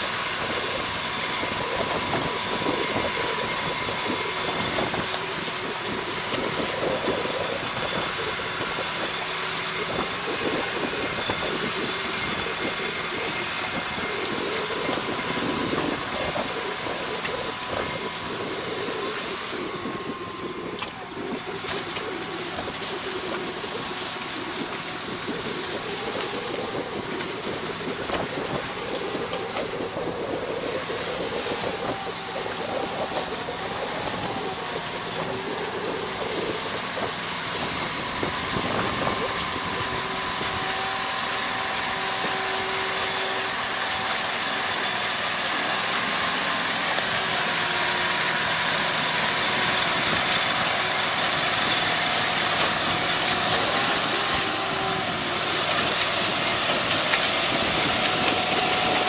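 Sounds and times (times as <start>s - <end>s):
engine whining: 0.0s - 59.0s
paddle wheels churning water: 0.0s - 59.0s.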